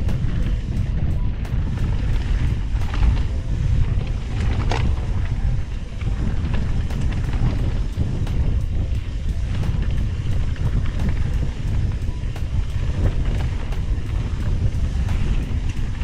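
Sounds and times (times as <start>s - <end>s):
bike ticks and rattles: 0.0s - 16.0s
steady rush of riding: 0.0s - 16.0s
wind buffeting microphone: 0.0s - 16.0s.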